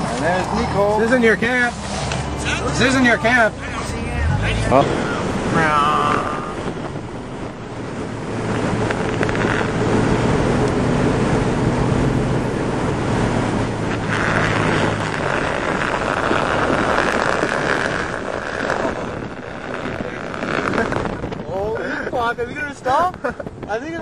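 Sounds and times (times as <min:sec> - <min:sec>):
engine running: 0:00.0 - 0:21.7
wind noise on microphone: 0:00.0 - 0:24.0.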